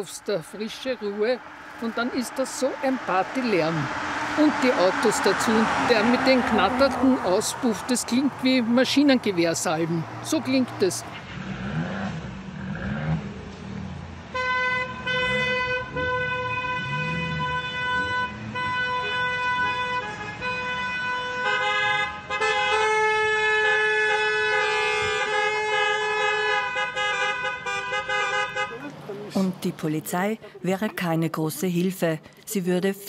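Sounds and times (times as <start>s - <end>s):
car horns honking: 0.0s - 11.3s, 14.3s - 30.1s.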